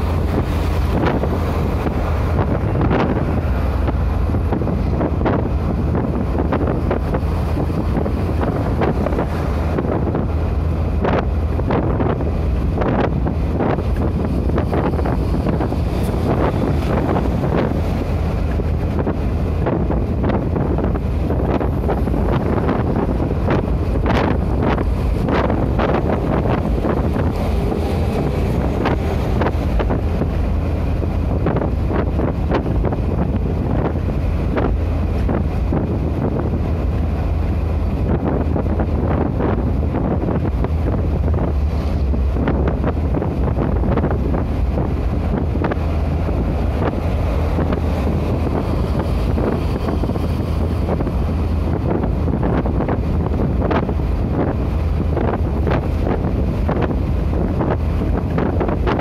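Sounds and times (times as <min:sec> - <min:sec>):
road and engine rumble in vehicle: 0:00.0 - 0:59.0.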